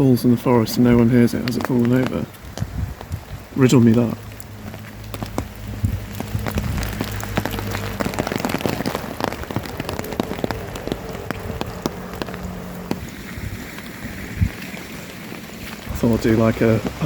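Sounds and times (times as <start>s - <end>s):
heavy rain on an umbrella: 0.0s - 17.0s.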